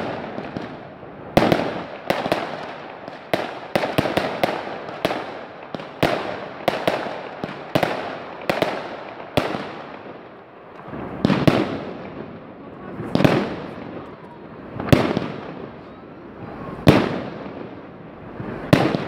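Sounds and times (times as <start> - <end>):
fireworks bangs crackling: 0.0 - 19.0.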